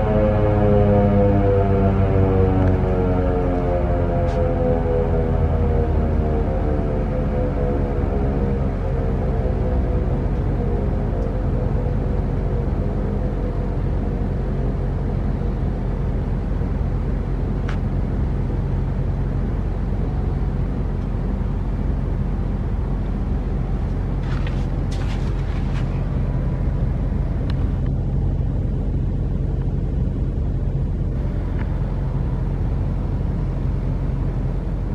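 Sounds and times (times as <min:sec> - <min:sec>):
low hum: 0:00.0 - 0:34.9
road traffic rumble: 0:00.0 - 0:34.9.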